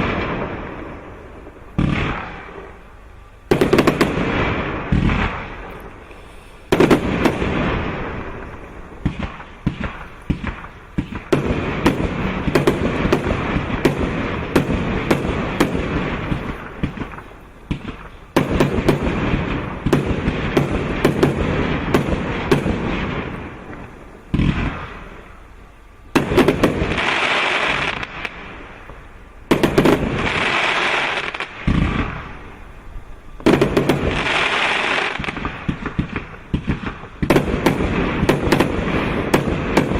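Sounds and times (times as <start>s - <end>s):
firework crackling: 0.0s - 39.9s
firework shots and bursts: 0.0s - 39.9s.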